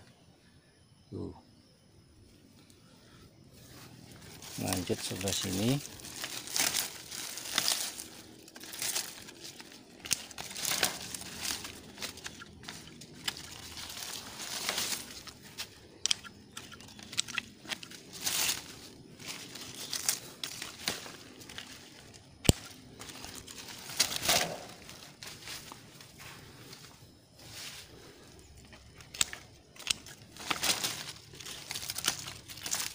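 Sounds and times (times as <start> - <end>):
grapevine leaves rustling: 3.5 - 32.9.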